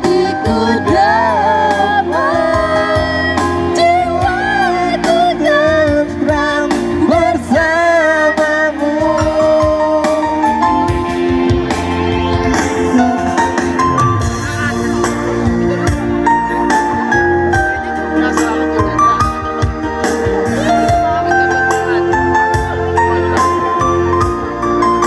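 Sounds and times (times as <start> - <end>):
song with sung melody and beat: 0.0 - 25.0.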